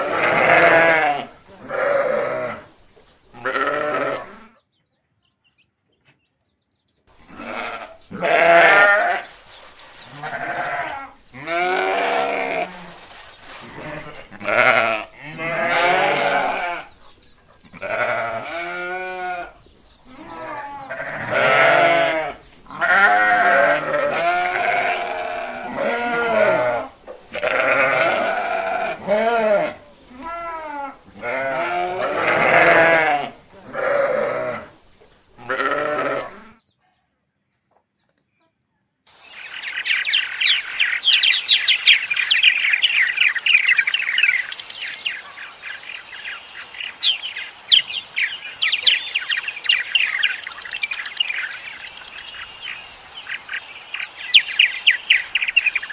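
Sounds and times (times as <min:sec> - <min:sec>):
goats bleating: 0:00.0 - 0:02.7, 0:03.4 - 0:04.4, 0:07.3 - 0:09.2, 0:10.1 - 0:12.8, 0:13.6 - 0:16.9, 0:17.7 - 0:34.7, 0:35.4 - 0:36.4, 0:39.2 - 0:55.9.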